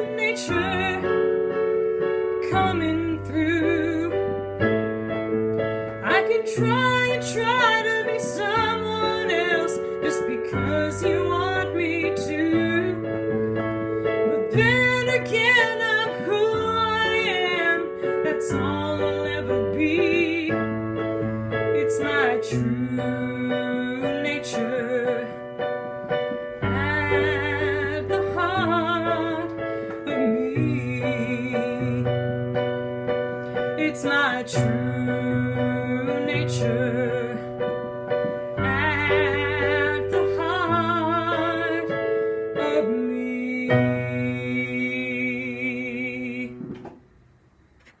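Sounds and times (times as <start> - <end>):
piano chords: 0.0 - 48.0.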